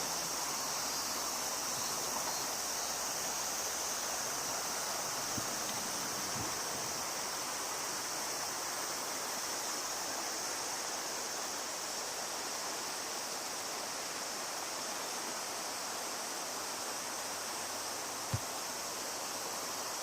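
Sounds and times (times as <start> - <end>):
high-pitched hiss: 0.0 - 20.0
river water flowing: 0.0 - 20.0.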